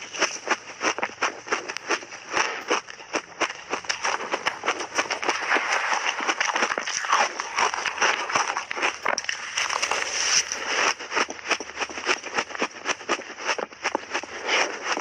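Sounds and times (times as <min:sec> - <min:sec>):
crunchy ice chewing: 0:00.0 - 0:15.0.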